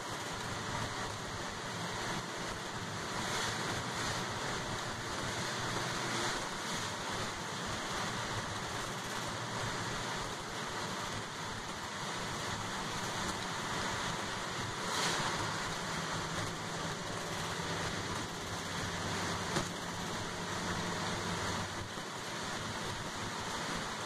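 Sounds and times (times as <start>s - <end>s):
bus engine running: 0.0s - 24.0s
tyres hissing on wet road: 0.0s - 24.0s.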